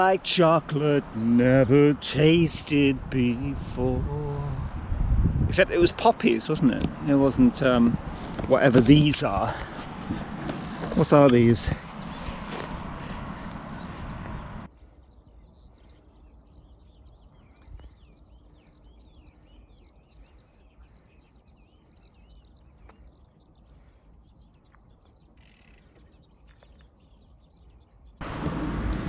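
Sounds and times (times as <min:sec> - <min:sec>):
small birds chirping: 0:00.0 - 0:04.8, 0:05.6 - 0:28.2.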